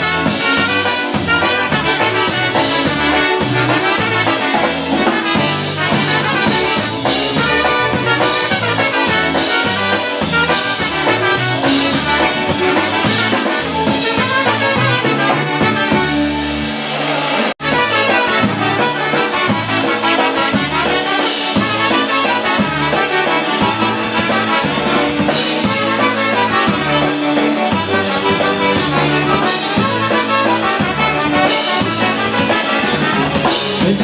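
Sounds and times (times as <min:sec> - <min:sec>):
bouncing bass line: 0:00.0 - 0:16.4, 0:17.6 - 0:34.0
drums: 0:00.0 - 0:34.0
trumpets playing melody: 0:00.0 - 0:34.0.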